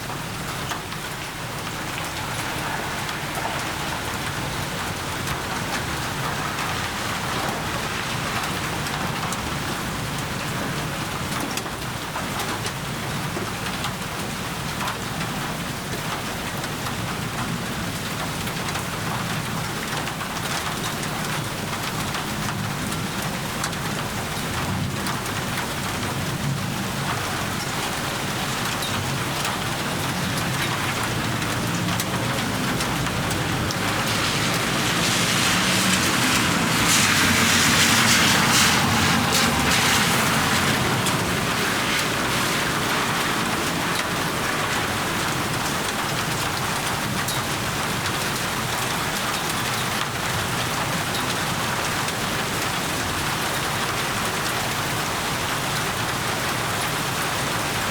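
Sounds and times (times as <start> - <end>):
heavy rain pattering: 0.0 - 57.9.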